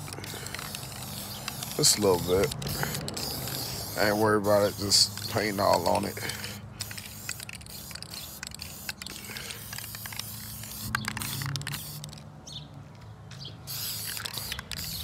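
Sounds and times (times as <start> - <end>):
spray can clicks and rattles: 0.0 - 12.2, 13.7 - 15.0
spray can hissing: 0.0 - 12.2, 13.7 - 15.0.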